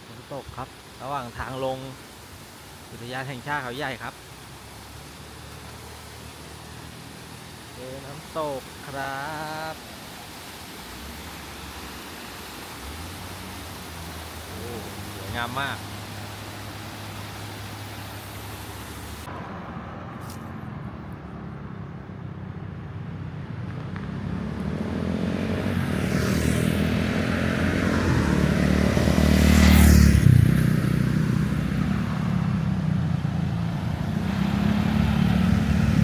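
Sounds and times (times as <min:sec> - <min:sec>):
vehicle engine and tyres: 0:00.0 - 0:36.0.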